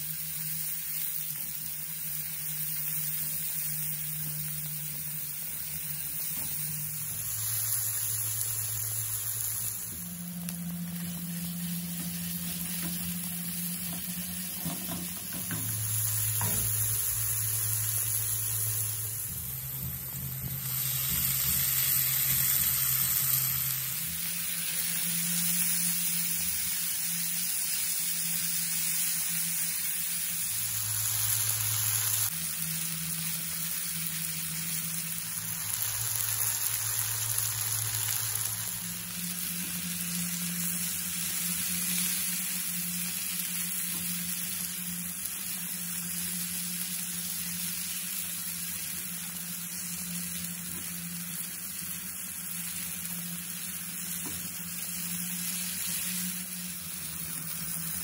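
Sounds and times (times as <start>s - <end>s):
beans sizzling in a frying pan: 0.0s - 58.0s
steady low hum: 1.3s - 48.0s.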